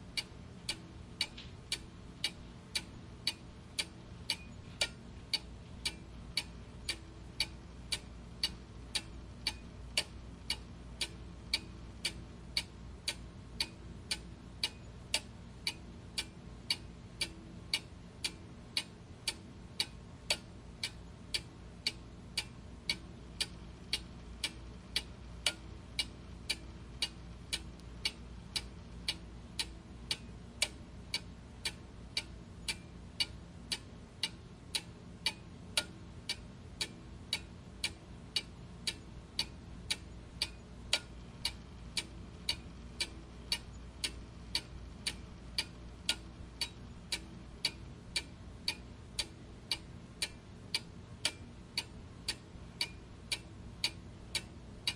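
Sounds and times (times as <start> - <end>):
faint low background noise: 0.0 - 54.9
clock ticking: 0.2 - 54.9.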